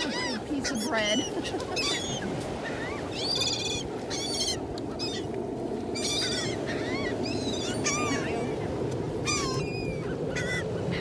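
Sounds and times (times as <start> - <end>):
seagulls calling: 0.0 - 11.0.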